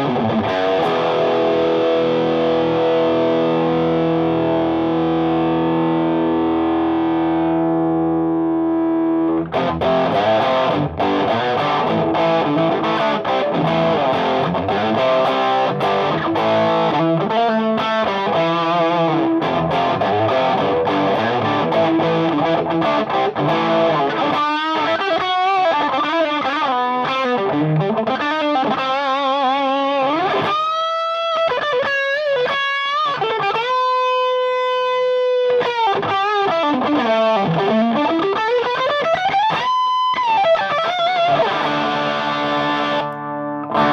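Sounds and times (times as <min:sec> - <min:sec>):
distorted electric guitar: 0:00.0 - 0:43.9.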